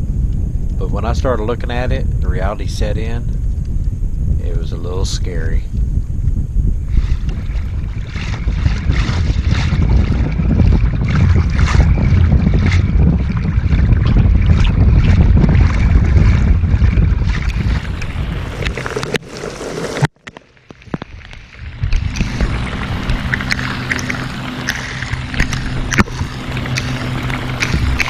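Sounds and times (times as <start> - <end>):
storm wind buffeting microphone: 0.0 - 20.0, 20.9 - 28.0.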